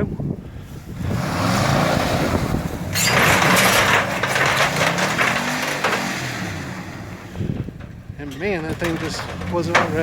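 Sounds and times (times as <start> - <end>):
vehicle engine pulling hard: 0.5 - 10.0.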